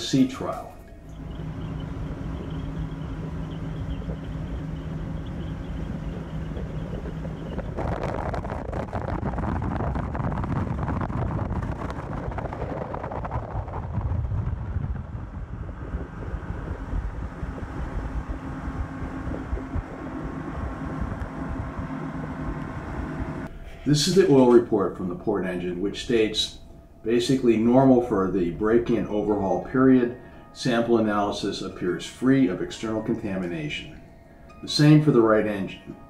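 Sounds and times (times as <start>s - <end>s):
outboard engines humming: 0.0s - 12.8s, 15.1s - 36.0s.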